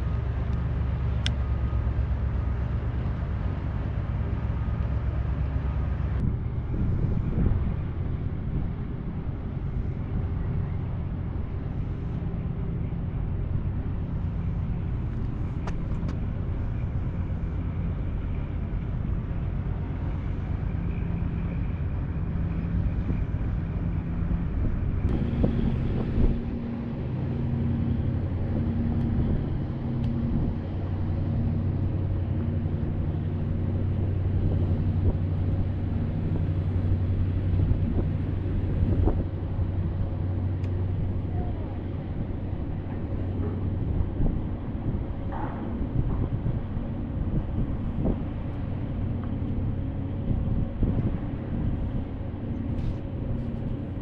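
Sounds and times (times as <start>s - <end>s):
low engine hum: 0.0s - 54.0s
low pulsing tone: 0.0s - 54.0s
outdoor rumble: 0.0s - 54.0s.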